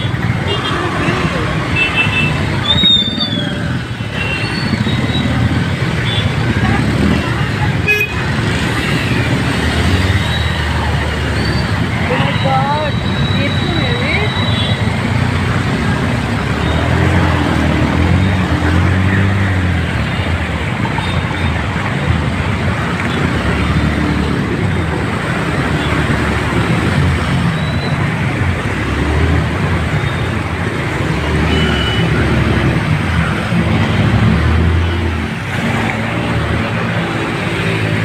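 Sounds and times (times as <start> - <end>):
heavy rain and rushing water: 0.0 - 38.0
vehicle engines humming: 0.0 - 38.0.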